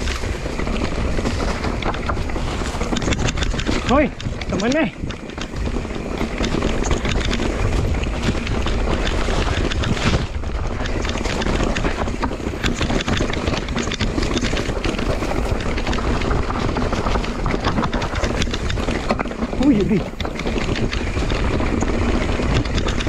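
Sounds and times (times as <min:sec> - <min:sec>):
bike rattling on stones: 0:00.0 - 0:23.0
wind buffeting microphone: 0:00.0 - 0:23.0.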